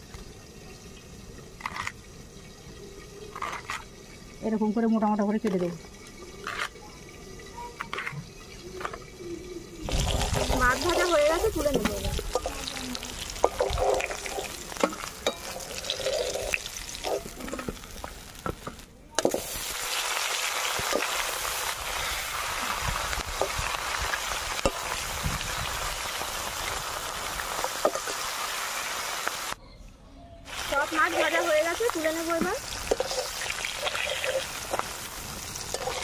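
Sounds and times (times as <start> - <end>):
fish sizzling in oil: 0.0 - 29.6, 30.5 - 36.0.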